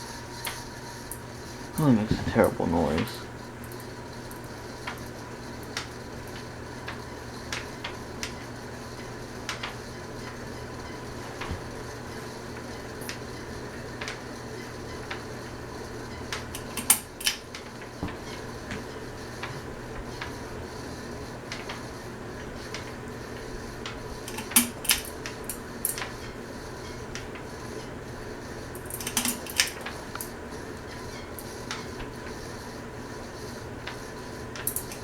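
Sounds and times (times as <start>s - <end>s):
ceiling fan motor hum: 0.0s - 35.0s.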